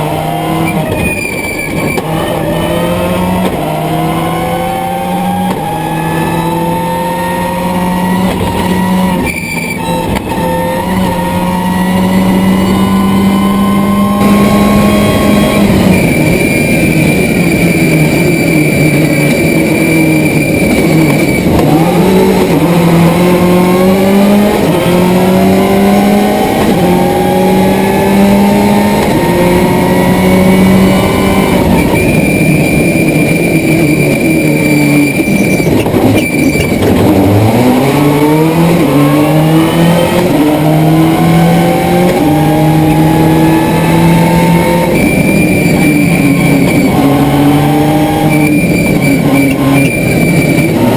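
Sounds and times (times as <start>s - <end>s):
high whine: 0.0s - 50.9s
rally car engine revving: 0.0s - 50.9s.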